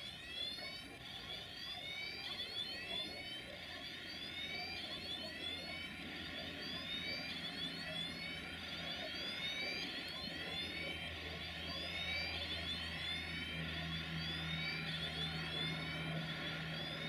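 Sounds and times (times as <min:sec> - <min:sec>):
low steady drone: 0:02.9 - 0:17.0.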